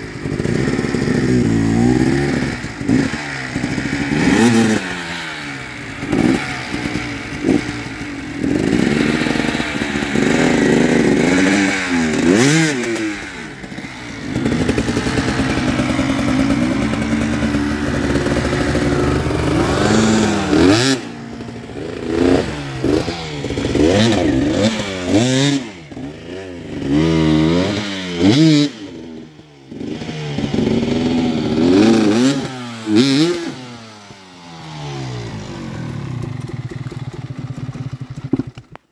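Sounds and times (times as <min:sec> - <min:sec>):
clatter: 0:00.0 - 0:33.6, 0:35.8 - 0:38.9
dirt bike engines revving: 0:00.0 - 0:38.1.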